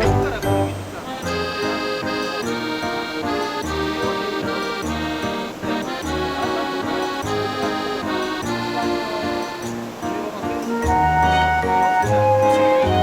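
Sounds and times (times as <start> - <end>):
accordion music: 0.0 - 13.0.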